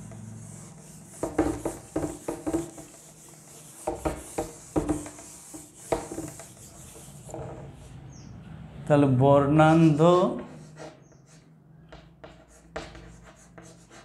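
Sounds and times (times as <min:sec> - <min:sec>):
duster rubbing on blackboard: 0:00.0 - 0:08.0, 0:09.6 - 0:11.6, 0:12.2 - 0:14.0.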